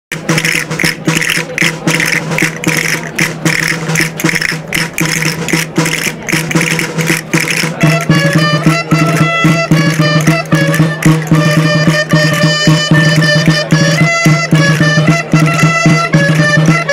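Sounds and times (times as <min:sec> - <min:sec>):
quick steady drum beat: 0:00.1 - 0:16.9
reedy shawm melody: 0:00.1 - 0:16.9.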